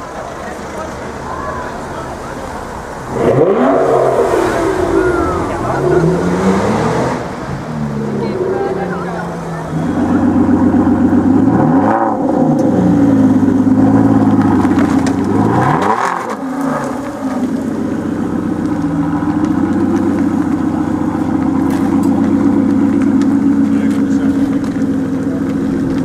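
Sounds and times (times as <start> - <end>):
car engine revving: 0.0 - 26.0
car engine running at low revs: 0.0 - 26.0.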